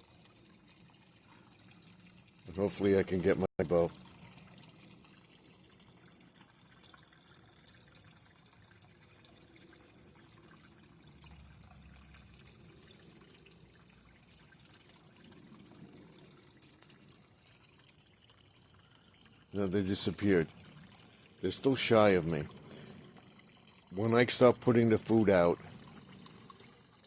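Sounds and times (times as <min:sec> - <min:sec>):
faint water trickling: 0:00.0 - 0:27.0.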